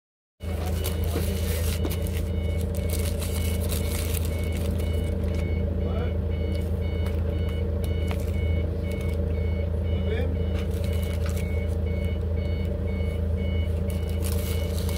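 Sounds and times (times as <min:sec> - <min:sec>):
high electronic beep: 0:00.4 - 0:14.9
low engine drone: 0:00.4 - 0:14.9.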